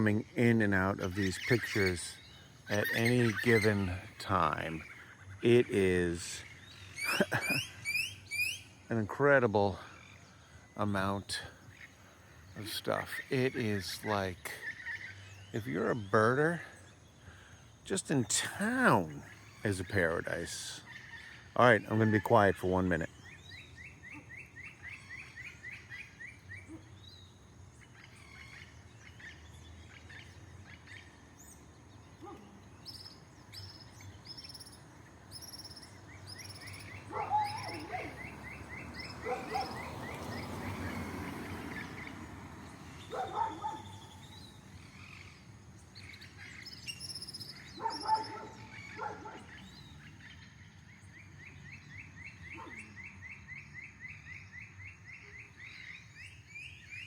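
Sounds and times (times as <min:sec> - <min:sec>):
birds chattering and chirping: 0:00.0 - 0:57.0
harsh bird calls: 0:00.0 - 0:57.0.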